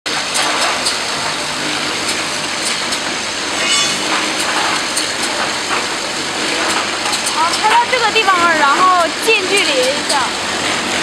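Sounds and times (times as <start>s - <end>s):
bottling machine clattering: 0.3s - 11.0s
high machine whine: 0.4s - 9.4s, 10.1s - 11.0s.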